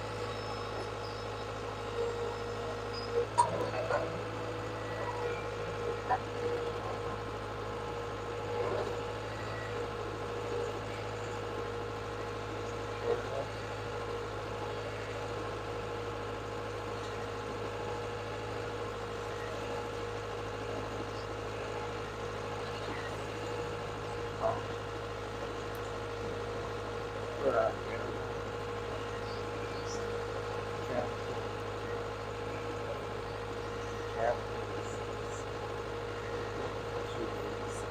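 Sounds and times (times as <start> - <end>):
diesel engine running steadily: 0.0 - 37.9.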